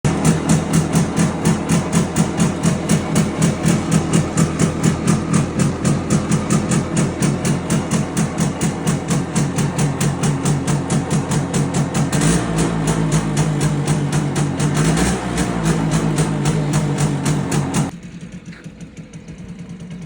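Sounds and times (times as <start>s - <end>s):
two-stroke moped engine pulsing: 0.0s - 20.0s.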